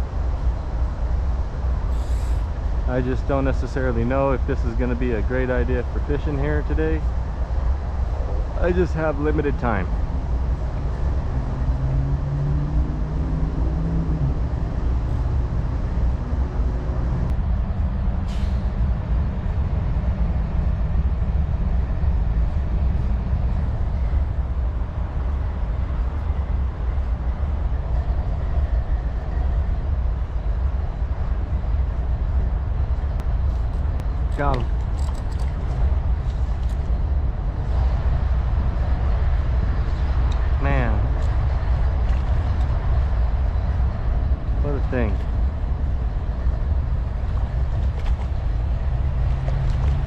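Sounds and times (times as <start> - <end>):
engine drone: 0.0 - 50.0
heavy vehicles rumbling: 0.0 - 50.0.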